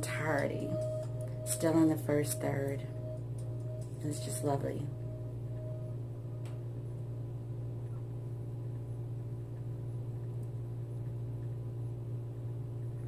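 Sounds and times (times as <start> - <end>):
faint steady tones: 0.0 - 13.0
low background hum: 0.0 - 13.0.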